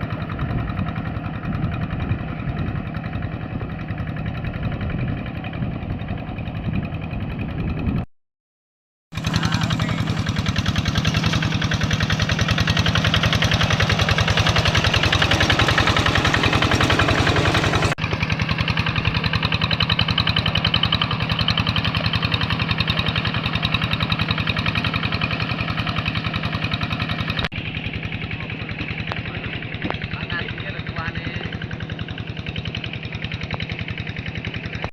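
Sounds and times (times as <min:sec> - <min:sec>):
tractor engine chugging: 0:00.0 - 0:07.9, 0:09.2 - 0:34.9.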